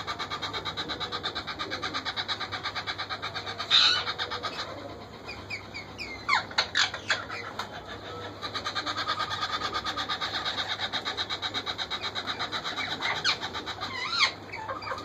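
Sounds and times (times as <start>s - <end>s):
parakeet chicks begging calls: 0.0s - 15.0s.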